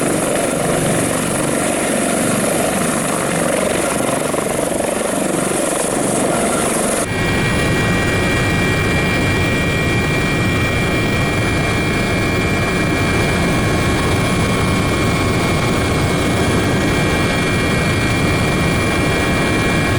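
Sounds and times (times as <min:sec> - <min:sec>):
helicopter engines and rotor running: 0:00.0 - 0:19.9
steady whining tones: 0:00.0 - 0:19.9.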